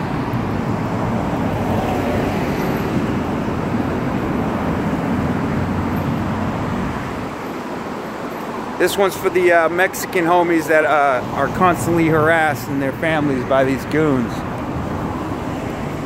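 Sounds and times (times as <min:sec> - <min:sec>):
cars passing on busy street: 0:00.0 - 0:16.0.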